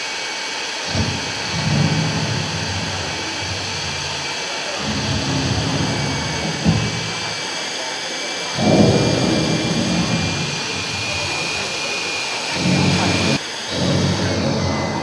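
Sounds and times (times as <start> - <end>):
hair dryer blowing with whine: 0.0 - 15.0
low voices: 0.7 - 15.0.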